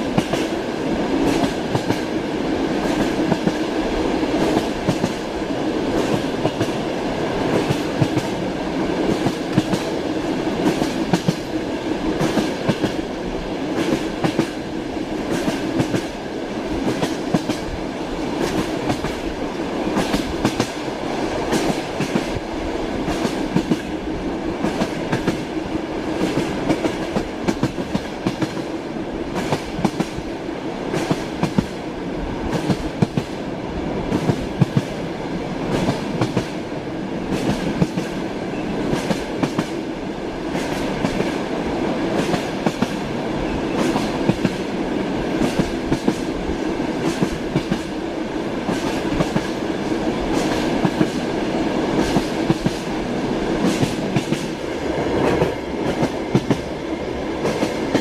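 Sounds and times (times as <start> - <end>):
train rumble from inside: 0.0 - 58.0.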